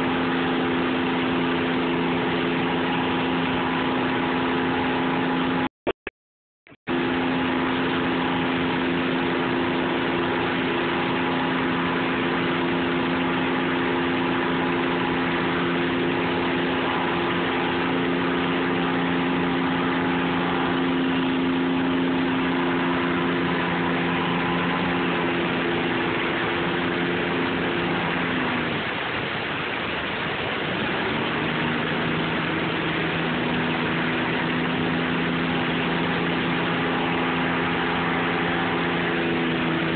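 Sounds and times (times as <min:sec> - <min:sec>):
engine humming: 0:00.0 - 0:05.7, 0:06.9 - 0:39.9
river water pouring over a dam: 0:00.0 - 0:05.7, 0:06.9 - 0:39.9.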